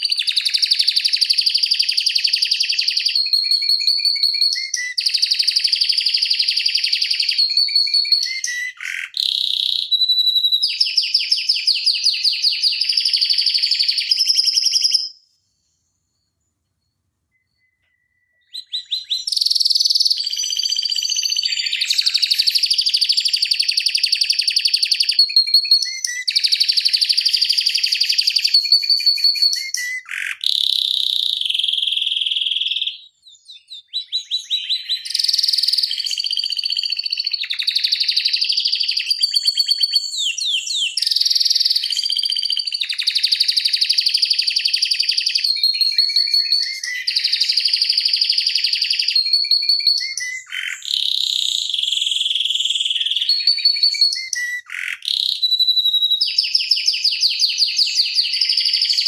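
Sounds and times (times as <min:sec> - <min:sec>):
canary singing trills: 0:00.0 - 0:15.4, 0:17.3 - 0:59.0.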